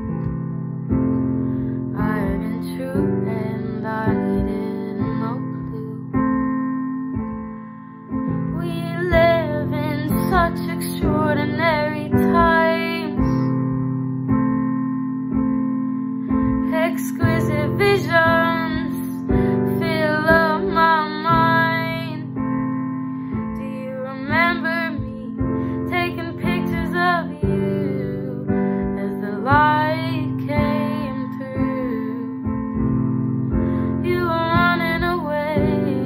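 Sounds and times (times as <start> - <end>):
young woman singing: 1.6 - 6.6, 8.4 - 13.7, 16.4 - 32.9, 33.6 - 36.0.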